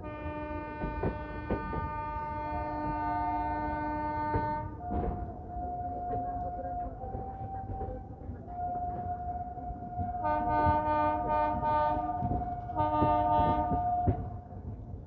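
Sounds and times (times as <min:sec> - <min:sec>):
train horn: 0:00.0 - 0:07.8, 0:08.5 - 0:14.5
moving train rumble: 0:00.0 - 0:15.0.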